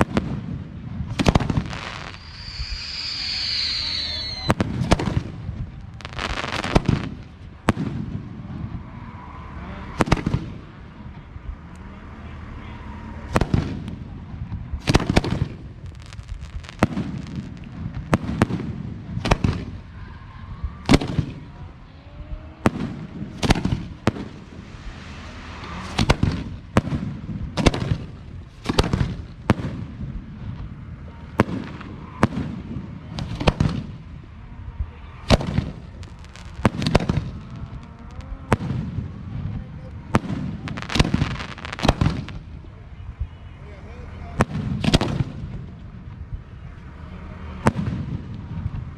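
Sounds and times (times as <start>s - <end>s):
fireworks exploding: 0.0s - 9.1s, 9.8s - 11.6s, 12.8s - 43.4s, 44.1s - 46.5s, 47.6s - 48.9s.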